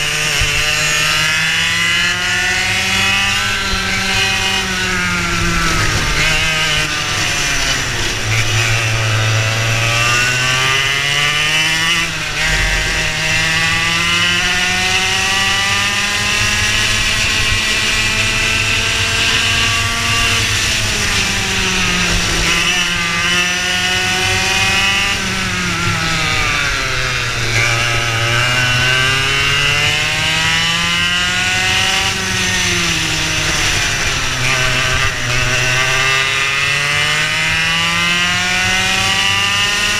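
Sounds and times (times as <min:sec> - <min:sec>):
kart engine at full throttle: 0:00.0 - 0:39.9.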